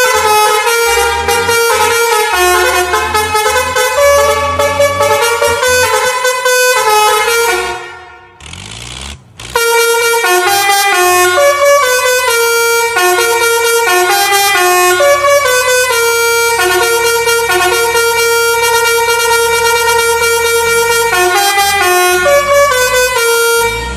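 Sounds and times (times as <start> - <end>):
truck air horns playing tune: 0.0 - 23.9.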